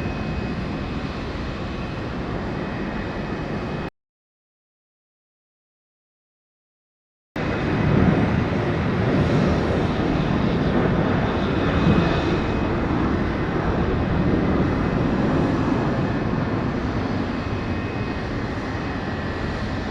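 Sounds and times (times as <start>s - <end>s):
airplane engine droning: 0.0s - 3.9s, 7.4s - 19.9s.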